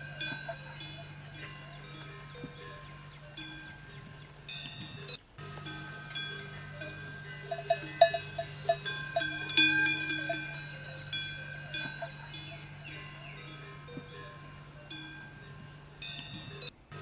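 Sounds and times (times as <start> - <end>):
livestock bells clanking: 0.0 - 17.0
steady low hum: 0.0 - 17.0.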